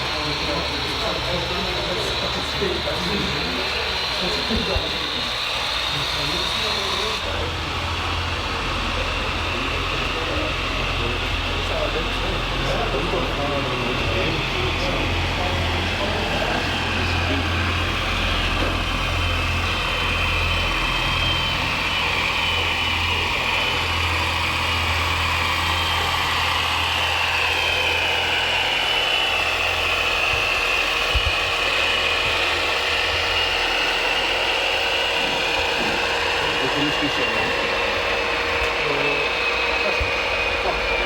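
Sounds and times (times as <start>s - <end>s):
high motor whine: 0.0s - 41.0s
low engine-like hum: 0.0s - 41.0s.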